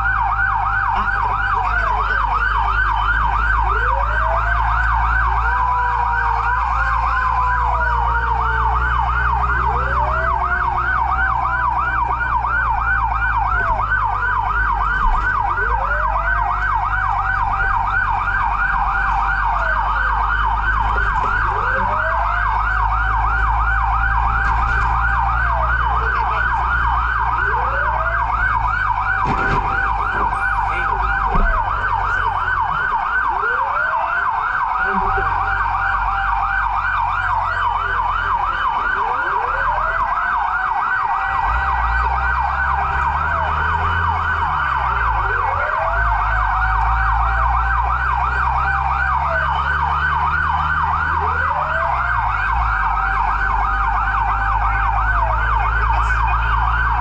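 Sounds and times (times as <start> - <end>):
fast yelping siren: 0.0 - 57.0
low engine rumble: 0.0 - 57.0
rising and falling siren: 0.0 - 57.0.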